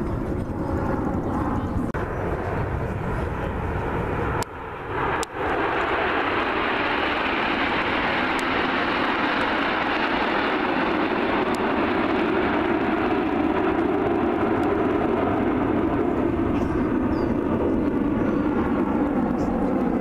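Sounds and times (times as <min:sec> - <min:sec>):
jets flying overhead: 0:00.0 - 0:20.0.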